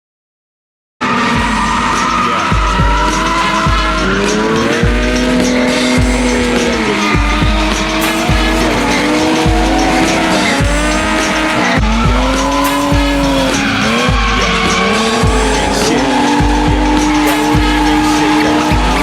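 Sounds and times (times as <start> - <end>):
car engines revving: 1.0 - 19.0
tyres squealing: 1.0 - 19.0
music with bass pulse: 1.4 - 19.0.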